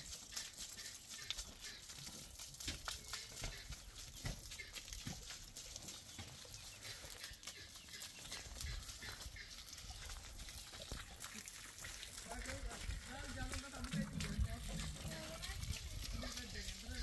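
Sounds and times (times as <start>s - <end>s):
farm animal noises: 0.0s - 17.0s.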